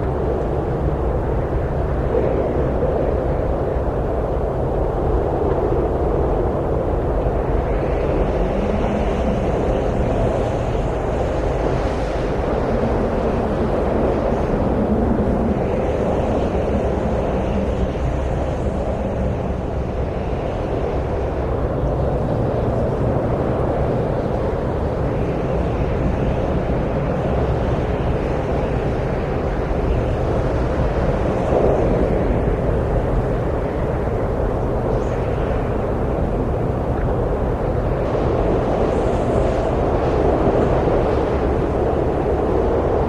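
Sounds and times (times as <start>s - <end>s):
steady wind noise: 0.0s - 43.0s.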